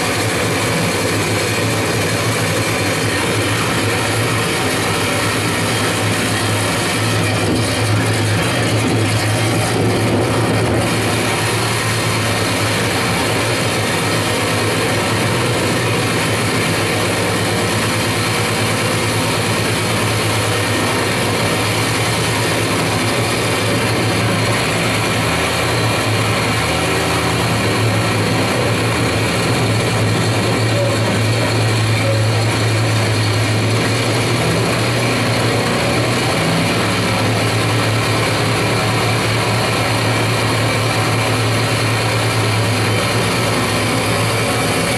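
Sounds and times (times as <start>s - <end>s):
propeller aircraft engine running: 0.0s - 44.9s.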